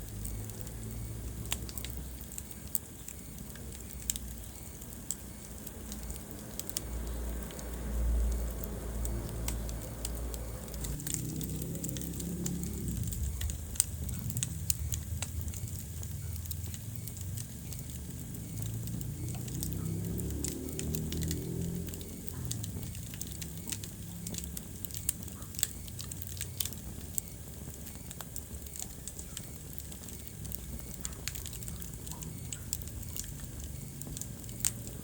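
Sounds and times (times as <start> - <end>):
fire crackles and pops: 0.0 - 35.0
rush of flame: 0.0 - 35.0.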